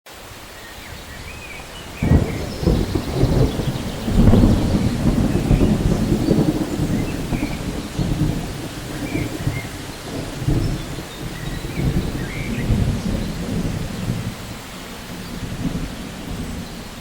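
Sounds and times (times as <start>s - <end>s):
rain falling: 0.1s - 17.0s
deep thunder rumble: 0.9s - 17.0s.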